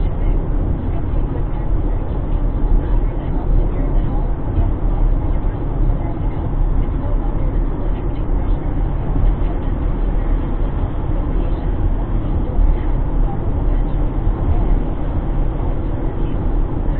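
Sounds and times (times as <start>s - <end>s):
car road rumble: 0.0s - 16.9s.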